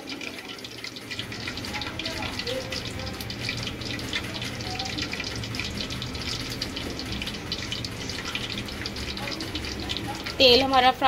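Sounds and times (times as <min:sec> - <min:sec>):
hot oil sizzling in a pot: 0:00.0 - 0:11.0.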